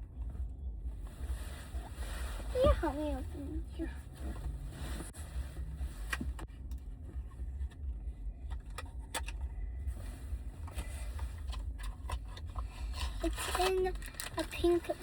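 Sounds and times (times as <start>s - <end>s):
low rumble of handling noise: 0.0s - 15.0s.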